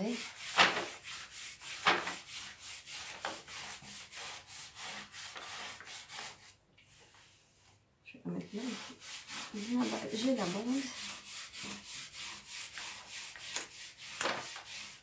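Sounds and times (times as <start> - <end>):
hand scraping plastic film: 0.0 - 7.3, 8.6 - 15.0.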